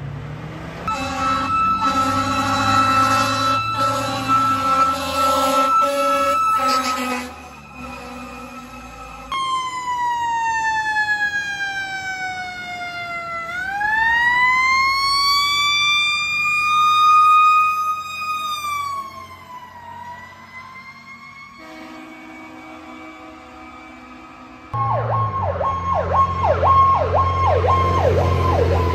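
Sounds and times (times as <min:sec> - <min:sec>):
fire engine siren wailing: 0:00.8 - 0:28.9
faint steady siren: 0:00.9 - 0:28.9.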